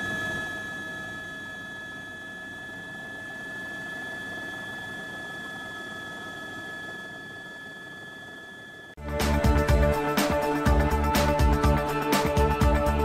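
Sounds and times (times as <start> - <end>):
aircraft engine humming: 0.0 - 13.0.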